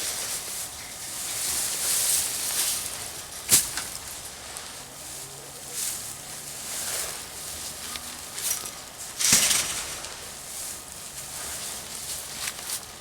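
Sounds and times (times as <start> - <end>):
dry hay rustling: 0.0 - 13.0.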